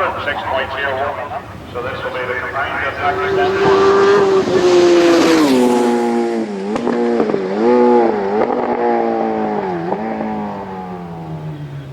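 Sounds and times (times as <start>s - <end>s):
racing motorcycle passing: 0.0s - 11.9s.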